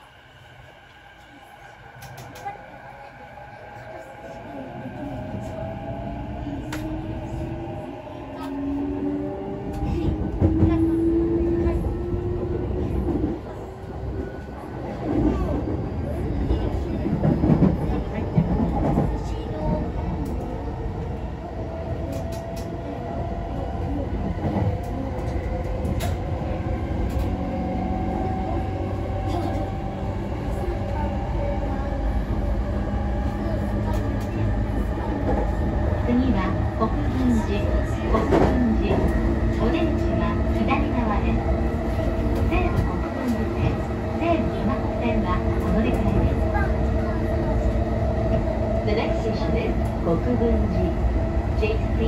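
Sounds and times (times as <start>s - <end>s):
wheels rumbling on rails: 4.8s - 52.0s.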